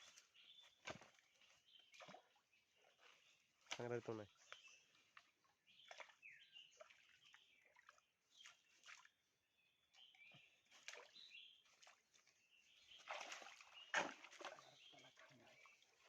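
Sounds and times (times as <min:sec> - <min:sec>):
soft water splashes: 0:00.0 - 0:16.0.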